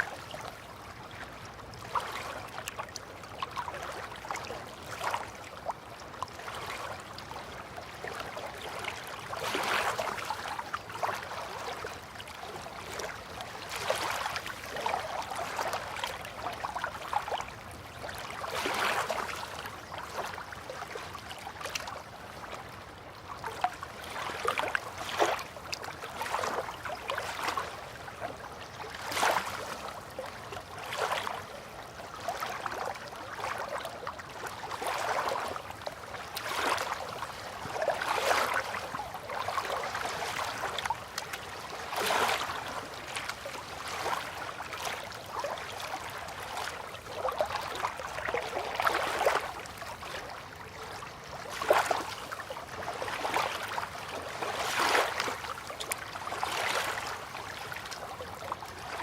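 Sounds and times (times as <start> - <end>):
river water lapping and splashing: 0.0 - 59.0.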